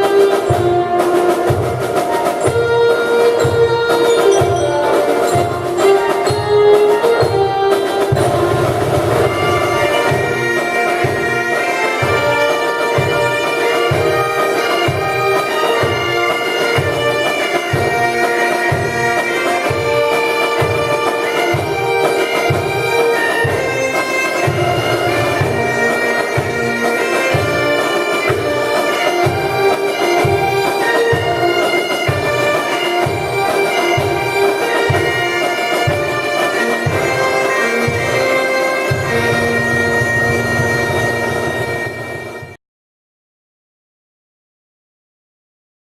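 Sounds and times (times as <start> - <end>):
bagpipe melody over drone: 2.5 - 8.5, 9.1 - 42.6.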